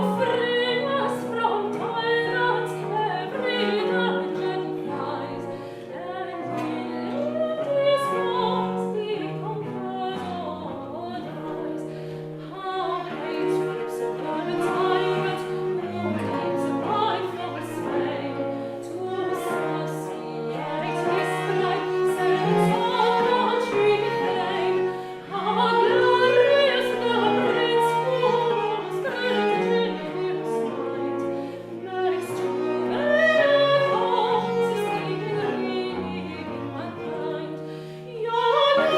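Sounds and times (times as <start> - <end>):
baroque ensemble playing: 0.0 - 38.9
woman singing in classical style: 0.0 - 38.9.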